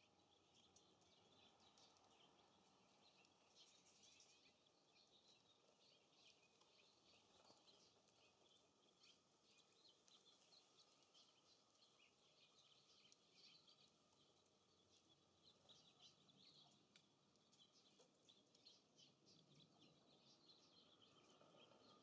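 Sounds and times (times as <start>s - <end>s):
faint low hiss: 0.0s - 22.0s.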